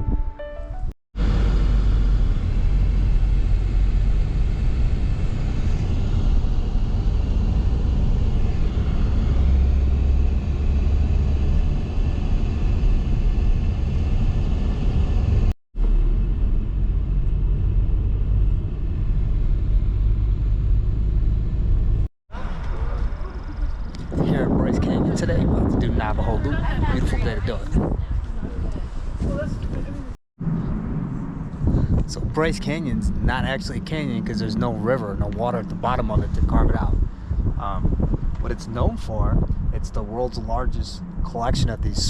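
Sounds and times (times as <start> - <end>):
moving car rumble: 0.0 - 42.0.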